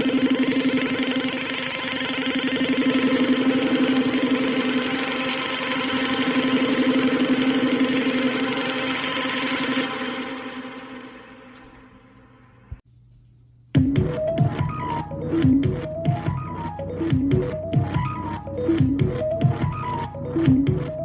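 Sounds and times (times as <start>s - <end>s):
distorted grindcore music: 0.0s - 11.4s, 13.8s - 21.0s.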